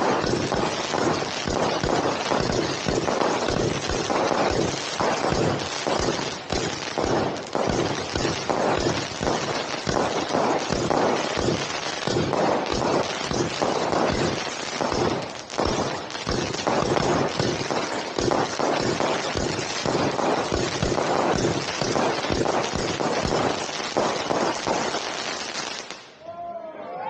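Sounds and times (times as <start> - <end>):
firework fountain hiss: 0.0 - 26.0
fireworks bangs and crackles: 0.0 - 26.2.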